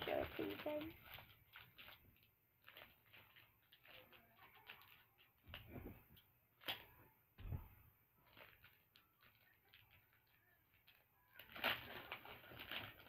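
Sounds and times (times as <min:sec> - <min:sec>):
plastic packaging crinkling: 0:00.0 - 0:06.9, 0:08.2 - 0:13.0.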